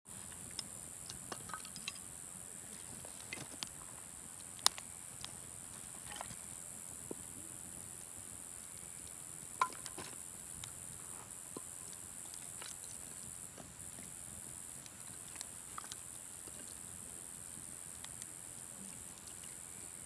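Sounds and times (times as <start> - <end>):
bonfire crackling: 0.2 - 19.5.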